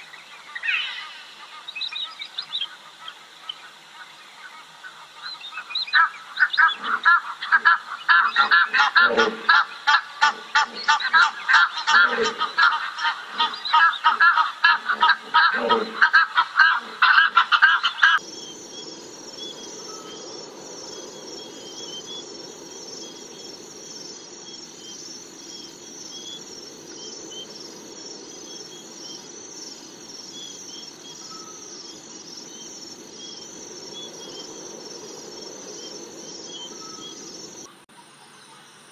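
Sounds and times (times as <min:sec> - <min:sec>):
flock of birds calling: 0:00.0 - 0:38.7.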